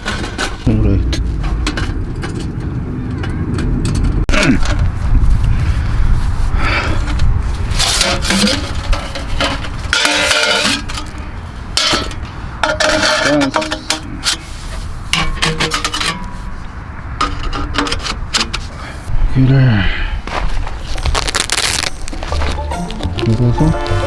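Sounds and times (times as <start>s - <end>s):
metal camping gear clanking: 0.0s - 4.9s, 6.9s - 18.8s, 20.8s - 24.0s.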